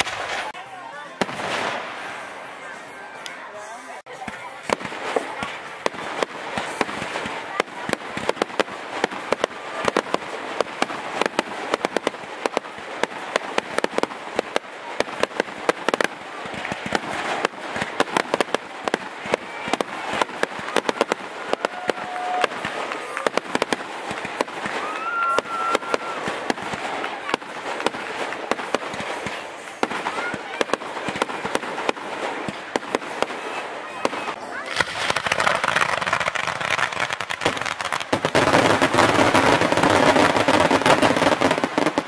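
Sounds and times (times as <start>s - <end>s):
fireworks barrage: 0.0s - 42.0s
crackling haze: 4.0s - 42.0s.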